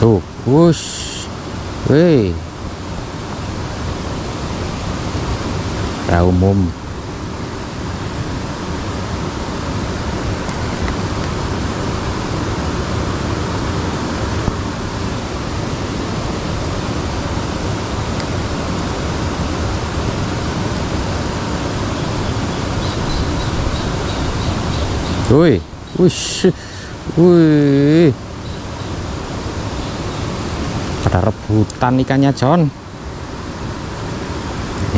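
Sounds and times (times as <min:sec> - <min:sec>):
flowing water rushing: 0:00.0 - 0:34.9.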